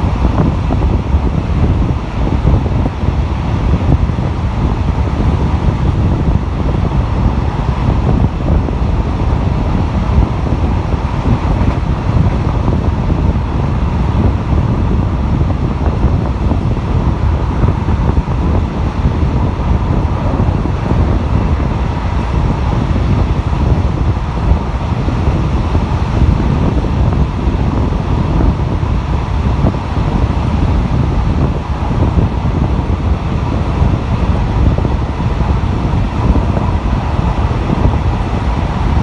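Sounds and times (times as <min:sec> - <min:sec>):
train rumbling on rails: 0:00.0 - 0:39.0
wind buffeting microphone: 0:00.0 - 0:39.0.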